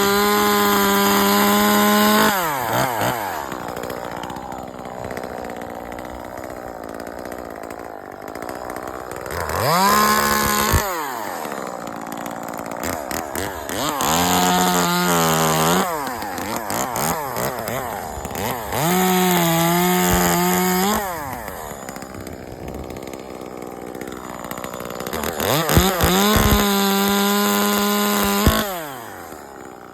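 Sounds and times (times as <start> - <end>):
chainsaw cutting branches: 0.0 - 29.9.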